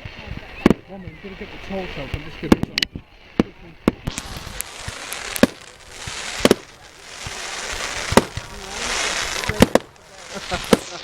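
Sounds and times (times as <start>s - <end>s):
crackling hiss of bursting shells: 0.0s - 11.0s
fireworks bangs: 0.0s - 11.0s.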